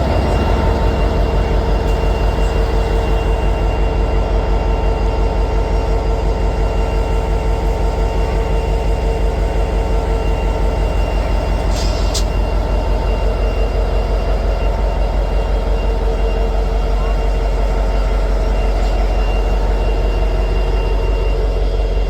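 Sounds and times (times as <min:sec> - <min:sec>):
train running: 0:00.0 - 0:22.0.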